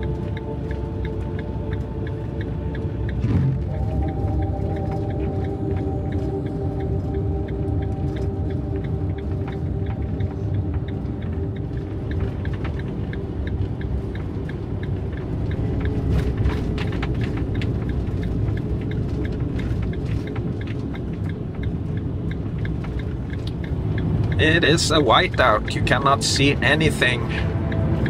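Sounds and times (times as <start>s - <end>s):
faint regular ticking: 0.0s - 28.0s
van driving on snowy road: 0.0s - 28.0s.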